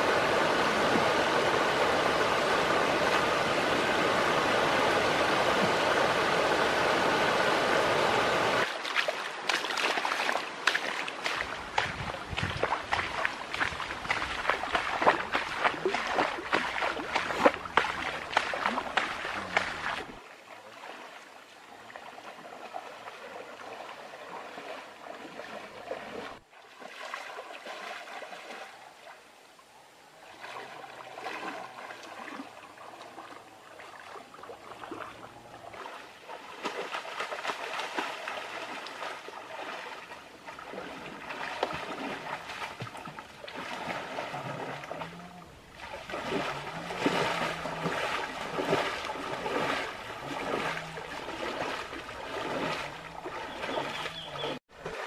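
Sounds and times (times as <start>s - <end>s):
stream running water: 0.0s - 55.0s
people splashing through water: 8.5s - 28.8s, 30.2s - 55.0s.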